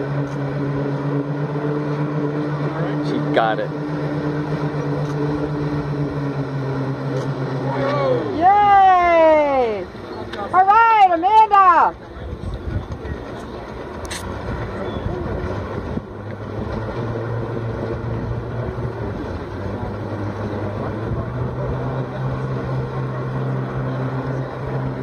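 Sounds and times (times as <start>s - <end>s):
jet ski engine running: 0.0s - 25.0s.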